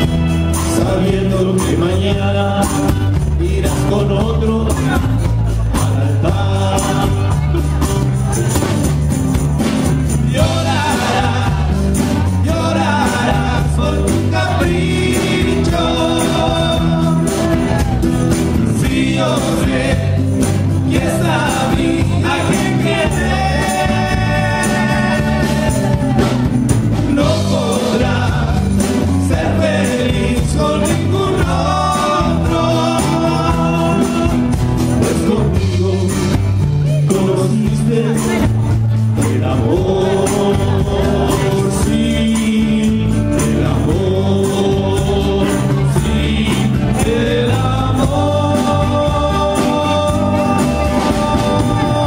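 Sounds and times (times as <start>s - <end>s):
bass guitar: 0.0s - 52.0s
drum kit: 0.0s - 52.0s
guitars: 0.0s - 52.0s
man singing: 0.0s - 52.0s.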